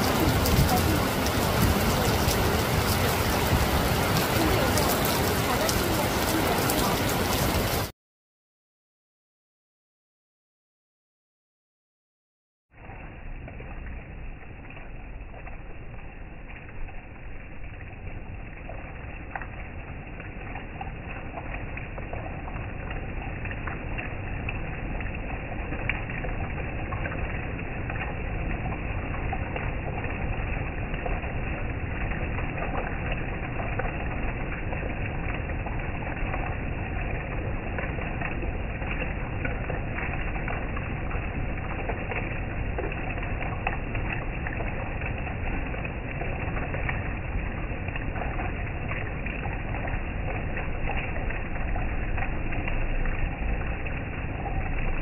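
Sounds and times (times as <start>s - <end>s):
heavy rain: 0.0s - 7.9s, 12.8s - 55.0s.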